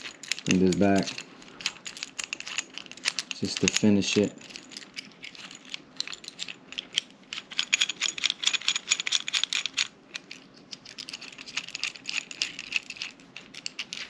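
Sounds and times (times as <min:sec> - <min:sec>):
small metallic clicks and rattles: 0:00.0 - 0:14.0.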